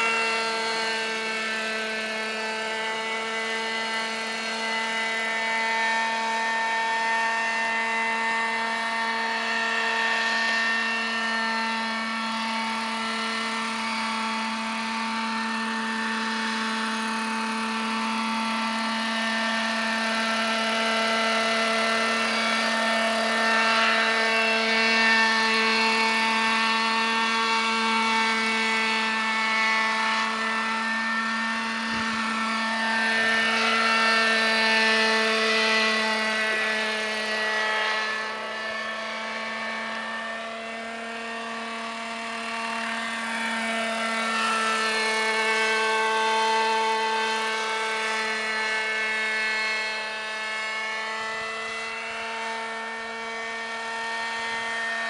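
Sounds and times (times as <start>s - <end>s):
model helicopter engine buzz: 0.0s - 55.0s.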